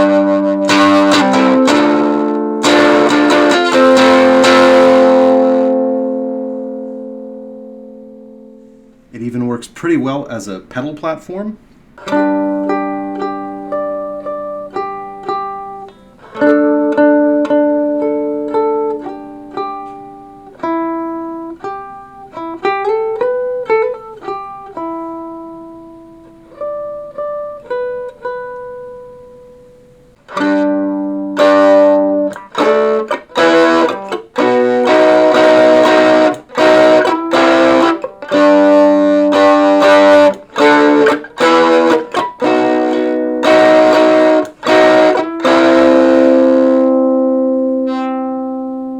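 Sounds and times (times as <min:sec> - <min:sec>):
amplified plucked string instrument: 0:00.0 - 0:09.2, 0:11.8 - 0:48.9.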